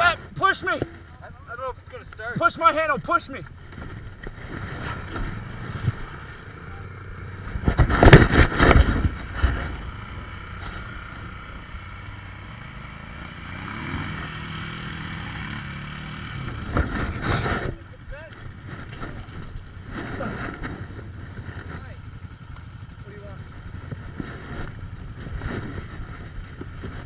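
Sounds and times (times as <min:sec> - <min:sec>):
atv engines running: 0:00.0 - 0:27.0
engine revving: 0:00.0 - 0:27.0.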